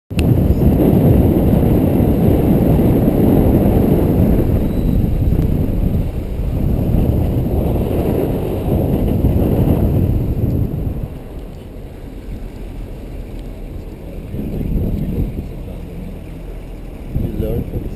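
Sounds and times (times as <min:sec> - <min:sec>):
car driving noise: 0:00.1 - 0:17.9
wind buffeting microphone: 0:00.1 - 0:17.9.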